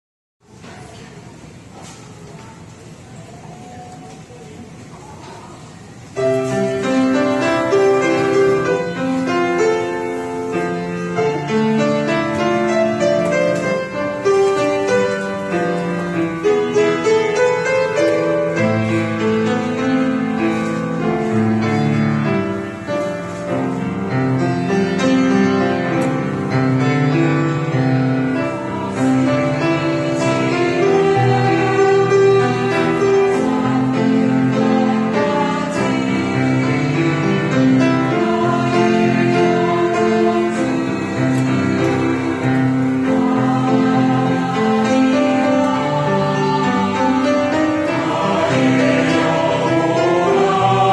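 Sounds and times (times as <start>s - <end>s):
piano playing: 6.1s - 50.9s.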